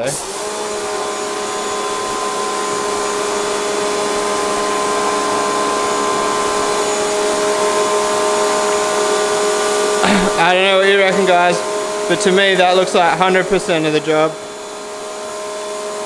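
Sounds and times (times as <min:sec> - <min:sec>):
motor and pump hum: 0:00.0 - 0:16.0.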